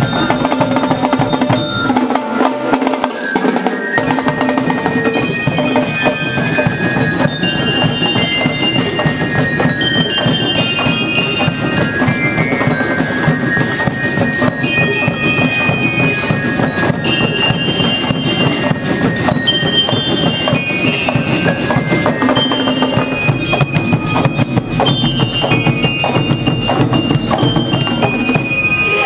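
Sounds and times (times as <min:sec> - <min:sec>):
drums beating: 0:00.0 - 0:29.0
mallet metal instrument melody: 0:00.0 - 0:29.0.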